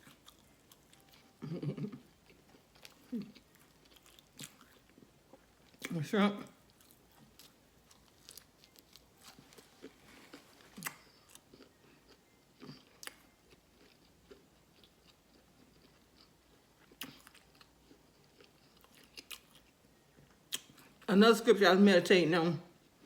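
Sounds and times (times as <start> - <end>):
chewing and crunching shrimp: 0.0 - 21.1.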